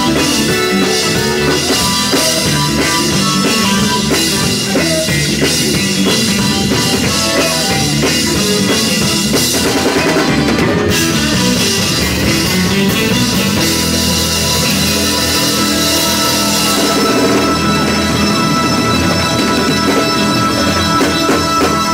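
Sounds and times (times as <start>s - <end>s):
drum kit: 0.0s - 21.9s
electric guitar: 0.0s - 21.9s
gospel band playing: 0.0s - 21.9s.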